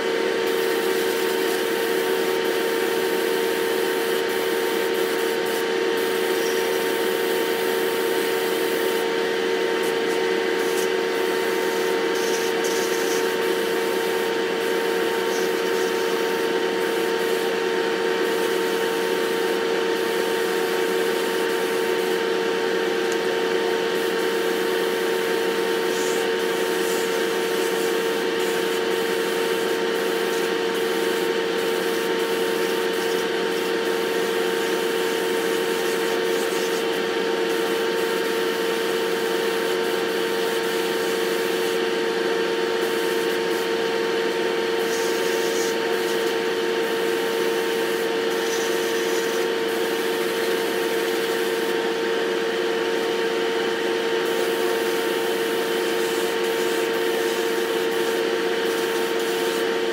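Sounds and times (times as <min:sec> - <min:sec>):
ventilation fans droning: 0:00.0 - 0:53.1
paint spray gun hissing: 0:00.4 - 0:09.1, 0:09.7 - 0:41.7, 0:42.8 - 0:43.8, 0:44.8 - 0:51.8, 0:54.2 - 0:59.8.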